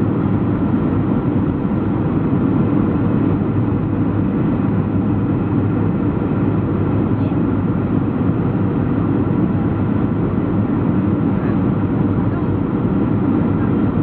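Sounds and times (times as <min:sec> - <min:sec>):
airplane cabin engine drone: 0:00.0 - 0:14.0.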